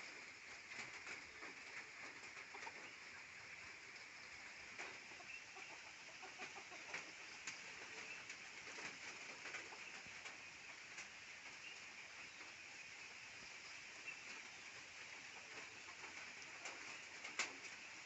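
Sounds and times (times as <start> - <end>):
chickens clucking softly: 0.0 - 18.0
steady high hiss: 0.0 - 18.0.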